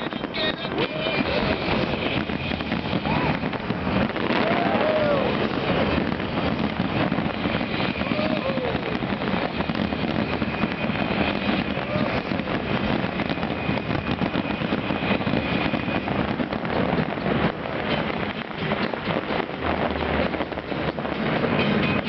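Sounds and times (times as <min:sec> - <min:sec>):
fireworks crackling and popping: 0:00.0 - 0:22.0
large crowd noise: 0:00.0 - 0:22.0.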